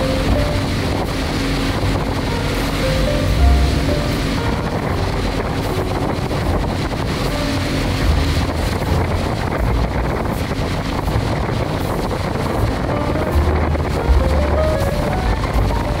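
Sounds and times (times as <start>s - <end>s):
outboard motor running: 0.0s - 16.0s
water washing along hull: 0.0s - 16.0s
wind buffeting microphone: 0.0s - 16.0s.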